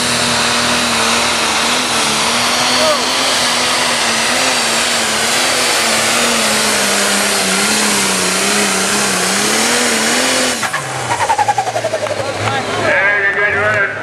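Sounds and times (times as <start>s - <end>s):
falling whine: 0.0s - 14.0s
tractor diesel engine under load: 0.0s - 14.0s.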